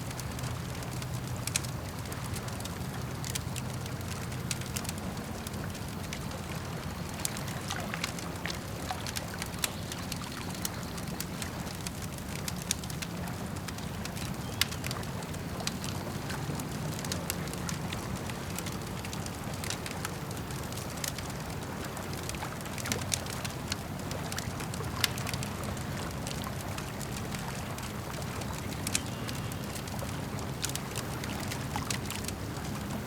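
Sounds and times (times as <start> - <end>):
campfire crackling and popping: 0.0 - 33.0
lake water washing: 0.0 - 33.0.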